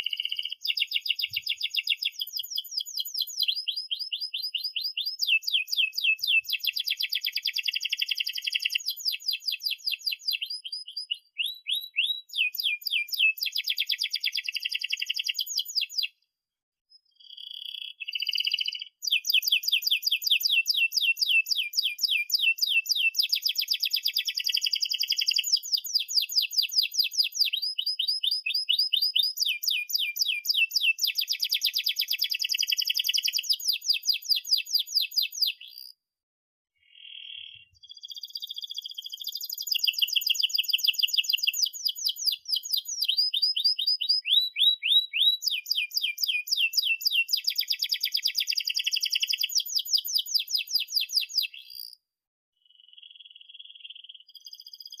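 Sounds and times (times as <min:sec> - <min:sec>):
canary singing trills: 0:00.0 - 0:16.2, 0:16.9 - 0:36.0, 0:36.8 - 0:52.0, 0:52.6 - 0:55.0.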